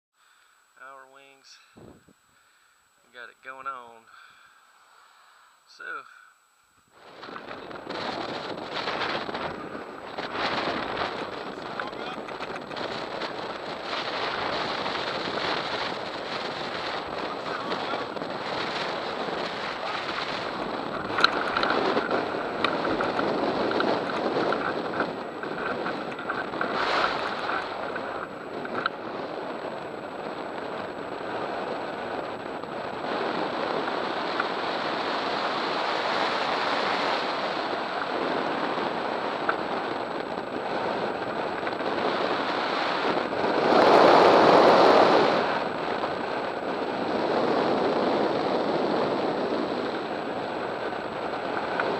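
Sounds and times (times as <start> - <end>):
wind rushing over microphone: 1.1 - 2.5, 6.8 - 51.9.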